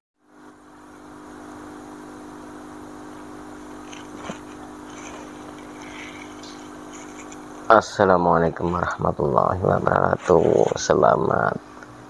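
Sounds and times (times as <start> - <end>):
low machine hum: 0.2 - 12.0.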